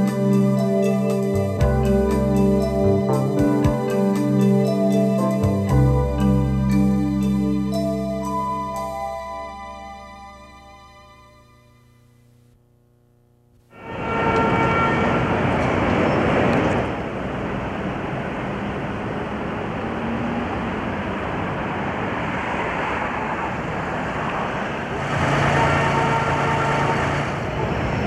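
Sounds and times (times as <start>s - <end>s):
city street traffic: 0.0s - 10.2s, 13.7s - 28.0s.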